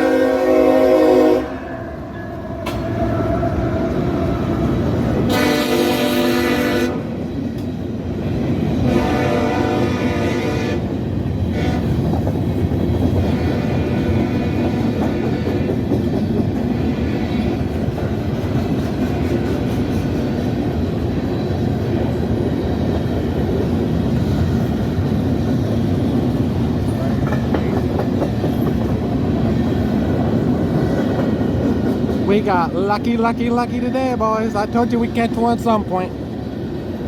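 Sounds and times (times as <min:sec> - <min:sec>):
freight train wheels rumbling on rails: 0:00.0 - 0:37.0.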